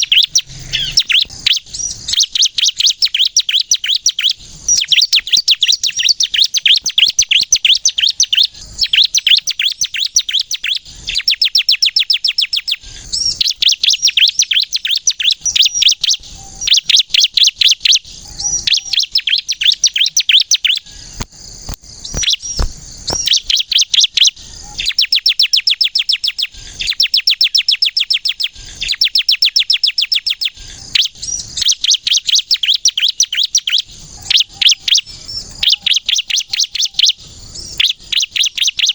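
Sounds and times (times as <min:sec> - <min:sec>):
bird singing shrill chirps: 0:00.0 - 0:38.9.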